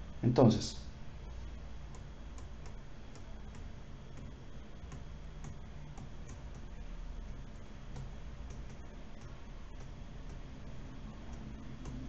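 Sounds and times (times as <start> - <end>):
low steady hum: 0.0 - 12.0
stylus tapping on tablet screen: 1.7 - 12.0.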